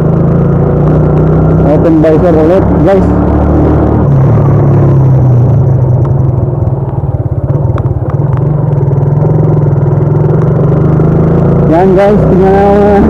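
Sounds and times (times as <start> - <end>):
motorcycle engine hum: 0.0 - 13.0.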